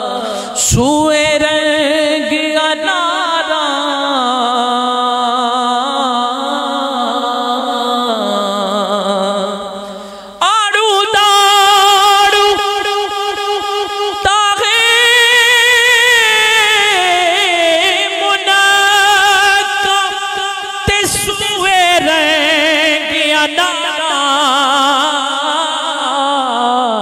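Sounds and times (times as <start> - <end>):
man singing into a microphone: 0.0 - 27.0.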